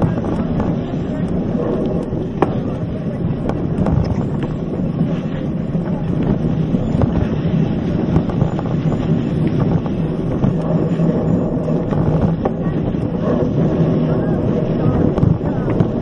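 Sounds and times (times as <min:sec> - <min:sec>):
bike tyres rumbling on trail: 0:00.0 - 0:16.0
wind buffeting microphone: 0:00.0 - 0:16.0.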